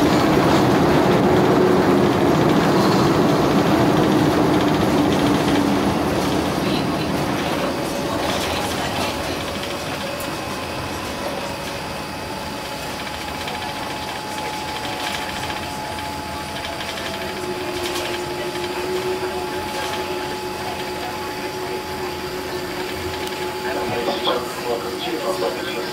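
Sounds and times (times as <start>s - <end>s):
aircraft engine and rolling hum: 0.0s - 25.9s
low whine: 0.0s - 25.9s
thin steady whine: 0.0s - 25.9s.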